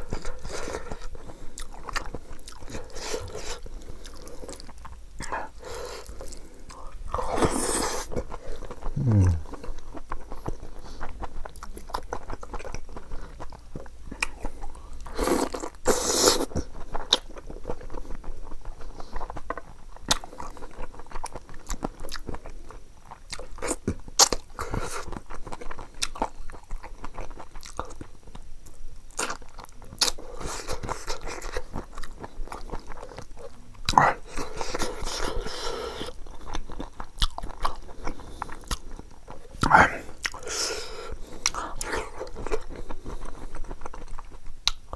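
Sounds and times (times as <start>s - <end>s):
chewing and crunching: 0.0s - 44.9s.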